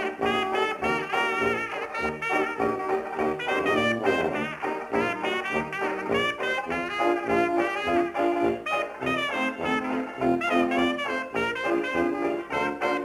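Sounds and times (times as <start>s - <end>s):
brass jazz band: 0.0s - 13.0s.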